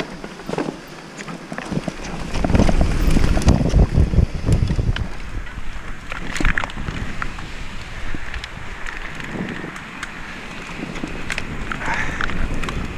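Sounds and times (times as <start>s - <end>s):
bike rattling and knocking: 0.0s - 12.9s
tyre rumble: 0.0s - 12.9s
wind on camera microphone: 1.6s - 12.9s.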